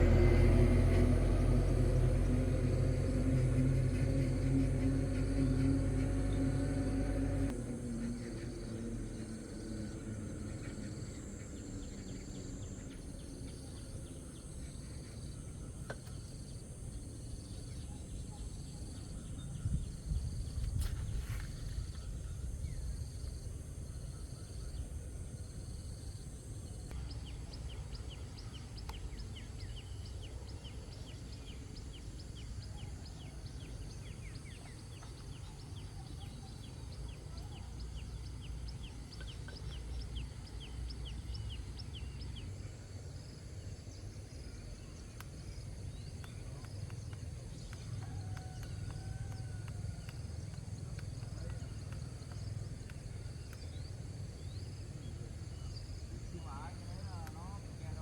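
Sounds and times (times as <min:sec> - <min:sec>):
steady low rumble: 0:00.0 - 0:15.8, 0:16.6 - 0:58.0.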